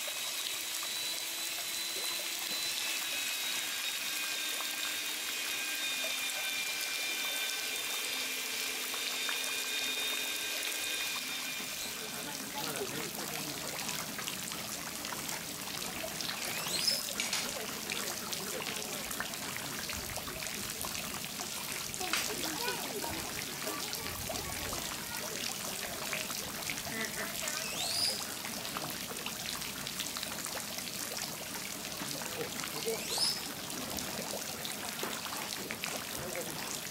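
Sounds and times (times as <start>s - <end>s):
water pouring into a pool: 0.0s - 36.9s.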